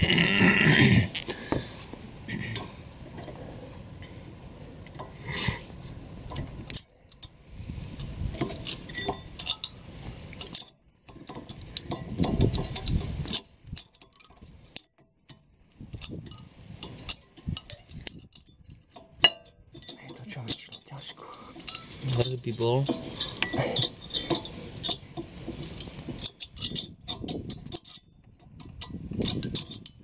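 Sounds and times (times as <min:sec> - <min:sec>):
metallic clinks and rattles: 0:02.3 - 0:03.7, 0:05.9 - 0:30.0.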